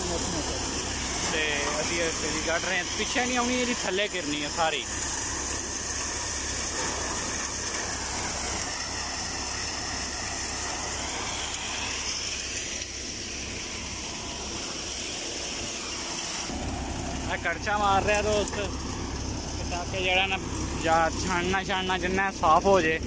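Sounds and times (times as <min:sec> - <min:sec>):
threshing machine rushing hiss: 0:00.0 - 0:22.5
diesel engine humming: 0:00.0 - 0:23.0.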